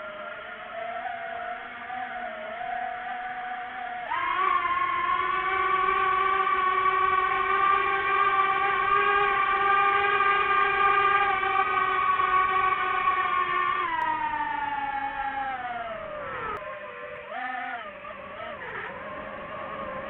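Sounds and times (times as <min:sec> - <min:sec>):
drone propellers buzzing whine: 0:00.0 - 0:20.0.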